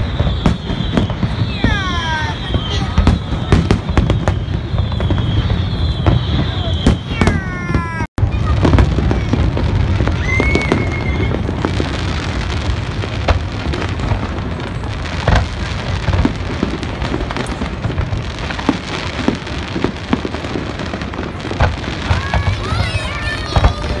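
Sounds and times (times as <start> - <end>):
firework whistle: 0.0 - 24.0
fireworks crackling: 0.0 - 24.0.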